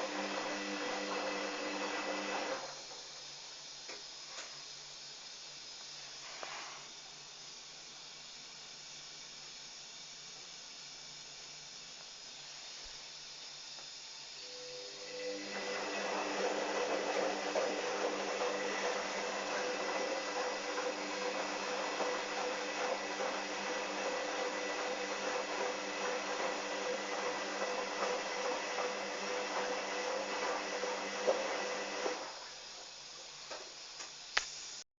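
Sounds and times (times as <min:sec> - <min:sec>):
washing machine hum: 0:00.0 - 0:06.4, 0:07.0 - 0:34.3.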